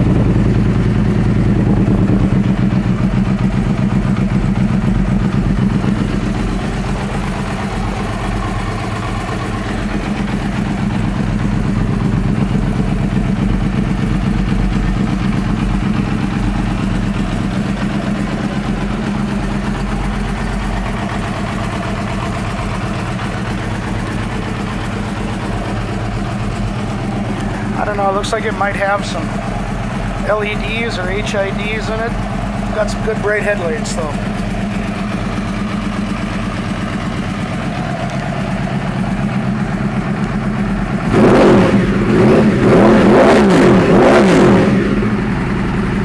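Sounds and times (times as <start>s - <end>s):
motorcycle engine idling: 0.0s - 46.0s.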